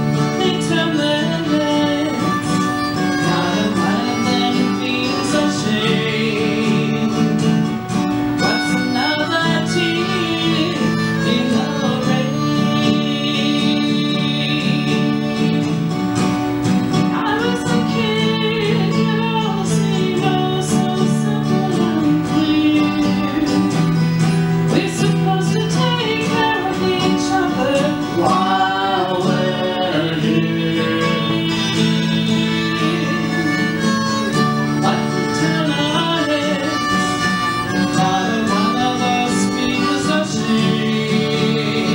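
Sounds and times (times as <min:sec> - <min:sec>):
acoustic country music on strings: 0:00.0 - 0:41.9.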